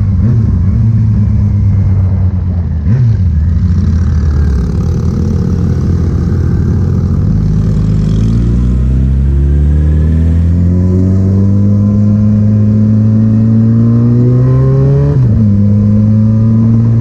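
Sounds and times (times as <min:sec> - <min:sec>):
vehicle engine exhaust accelerating: 0:00.0 - 0:17.0.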